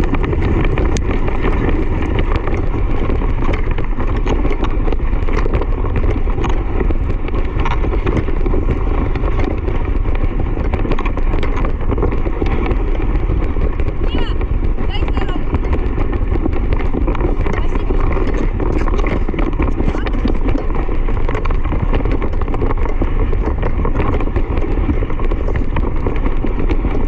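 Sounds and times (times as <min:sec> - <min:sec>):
rumbling of fast movement: 0:00.0 - 0:27.0
small clicks and rattles: 0:00.0 - 0:27.0
wind buffeting microphone: 0:00.0 - 0:27.0.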